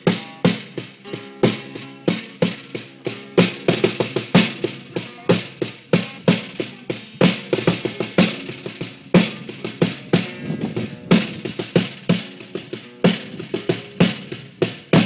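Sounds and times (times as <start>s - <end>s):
acoustic guitar strumming: 0.0s - 15.0s
snare drum strikes: 0.0s - 15.0s.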